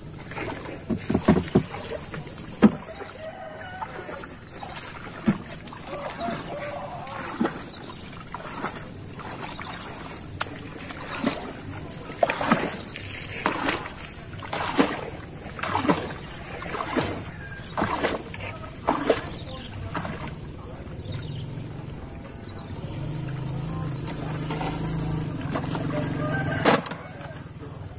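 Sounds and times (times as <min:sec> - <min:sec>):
water splashing and dripping: 0:00.0 - 0:26.9.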